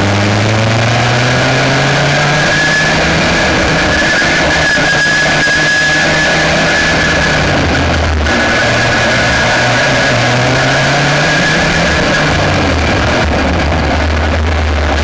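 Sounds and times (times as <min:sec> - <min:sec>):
kart engine running: 0:00.0 - 0:15.0.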